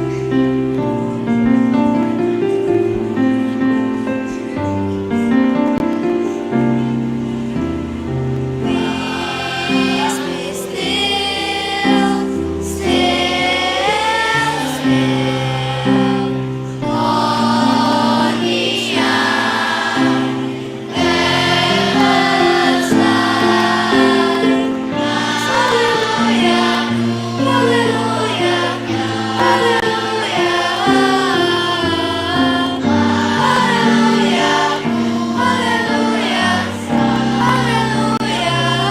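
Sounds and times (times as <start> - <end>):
children's choir singing: 0.0 - 38.9
piano accompaniment: 0.0 - 38.9.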